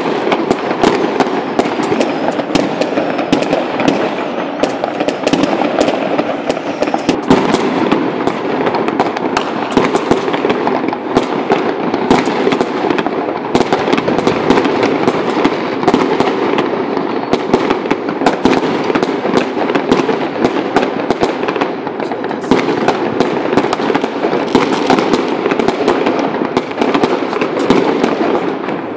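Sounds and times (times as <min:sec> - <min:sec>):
distant firework explosions: 0:00.0 - 0:28.9
sharp firecracker bangs and pops: 0:00.0 - 0:28.9.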